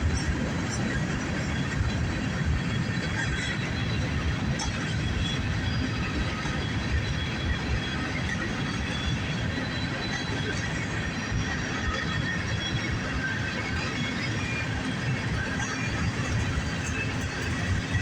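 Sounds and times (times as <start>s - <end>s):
train wheels rumbling on rails: 0.0s - 18.0s
faint wheel squeal: 2.5s - 18.0s.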